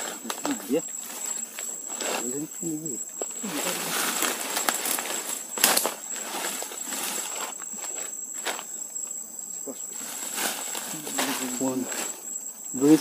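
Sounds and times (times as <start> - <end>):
twigs crackling: 0.0 - 9.1, 9.8 - 12.8
footsteps through undergrowth: 0.0 - 9.2, 9.8 - 12.4
insect drone: 0.0 - 13.0.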